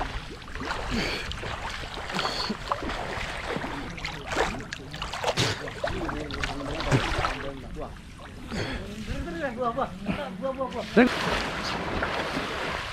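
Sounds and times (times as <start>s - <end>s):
water splashing from swimmers: 0.0s - 12.9s.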